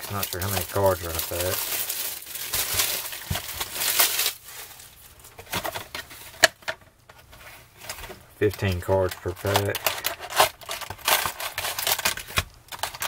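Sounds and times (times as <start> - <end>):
cellophane wrap crinkling: 0.0 - 6.4, 7.8 - 13.0.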